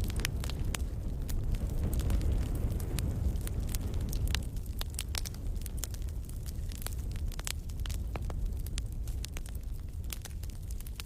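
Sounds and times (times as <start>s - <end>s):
burning wood crackling: 0.0s - 11.0s
rumble of flames: 0.0s - 11.0s.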